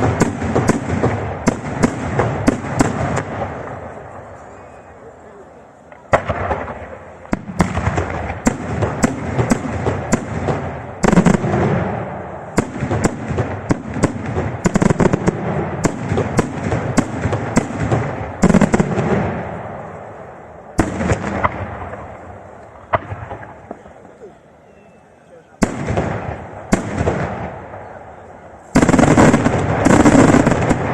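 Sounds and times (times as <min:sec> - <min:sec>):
heavy firework booms: 0:00.0 - 0:04.3, 0:06.1 - 0:20.0, 0:20.7 - 0:24.0, 0:25.6 - 0:30.9
fireworks bursting with sharp bangs: 0:00.0 - 0:30.9.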